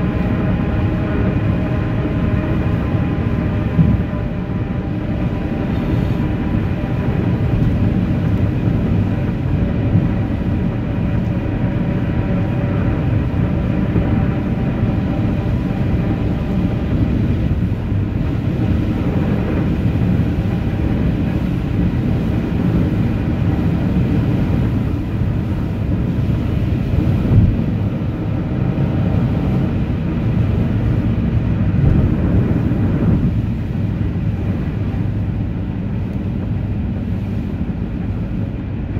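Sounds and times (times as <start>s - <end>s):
vehicle engine and tyre rumble: 0.0s - 38.9s.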